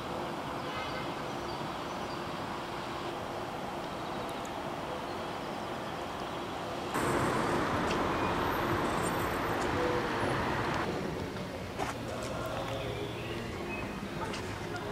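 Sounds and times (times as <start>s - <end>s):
urban background hiss: 0.0s - 14.9s.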